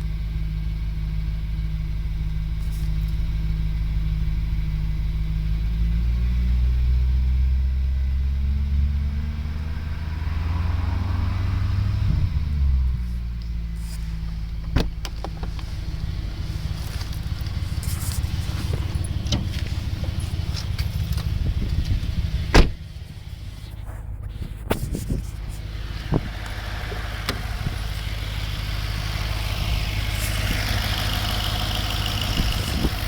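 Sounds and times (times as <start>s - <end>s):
car engine whirring: 0.0s - 33.0s.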